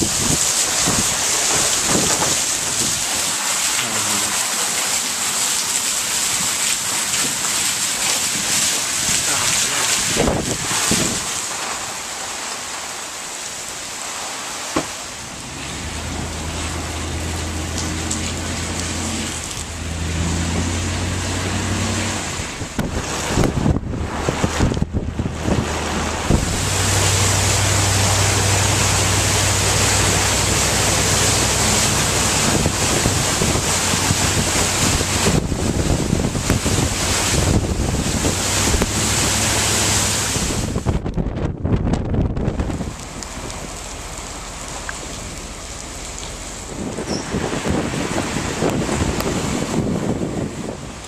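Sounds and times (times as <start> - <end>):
heavy rain and wind: 0.0 - 51.0.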